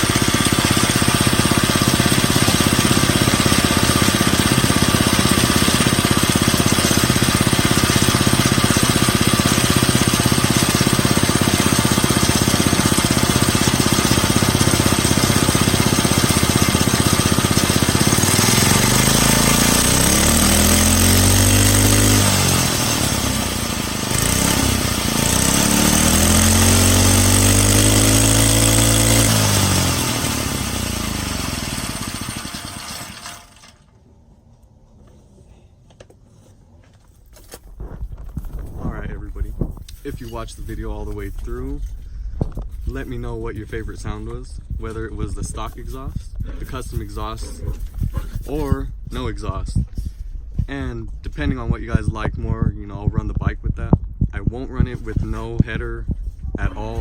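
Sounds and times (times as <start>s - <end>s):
pocket bike engine idling and revving: 0.0s - 33.9s, 37.5s - 50.8s, 51.4s - 57.0s.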